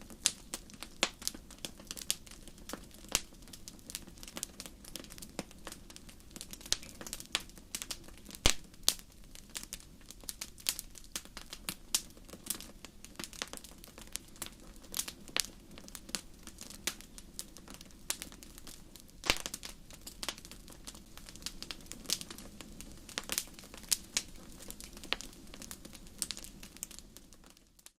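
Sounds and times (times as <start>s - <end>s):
campfire crackling: 0.0s - 28.0s
flames low steady noise: 0.0s - 28.0s.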